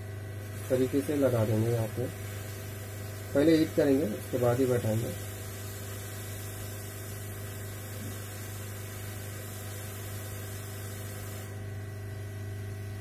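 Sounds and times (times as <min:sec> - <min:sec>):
hot air station fan hum: 0:00.0 - 0:13.0.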